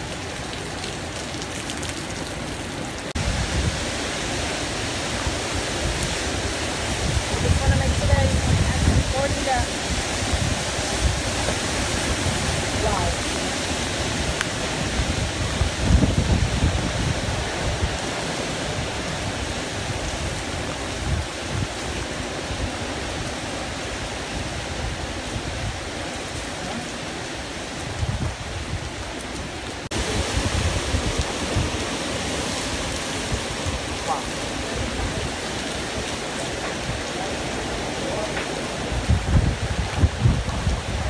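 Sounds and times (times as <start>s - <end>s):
hurricane wind and heavy rain: 0.0s - 41.0s
wind gusts buffeting microphone: 1.6s - 41.0s.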